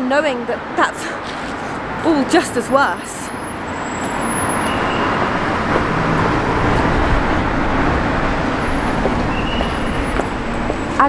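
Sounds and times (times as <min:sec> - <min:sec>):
cars passing on street: 0:00.0 - 0:11.0.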